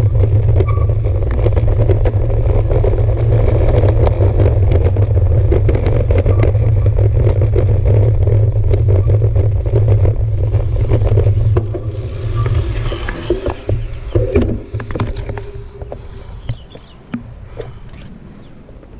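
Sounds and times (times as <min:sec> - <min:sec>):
bike rolling on asphalt: 0:00.0 - 0:18.9
bike rolling over cobblestones: 0:00.0 - 0:18.9
wind noise: 0:00.0 - 0:18.9.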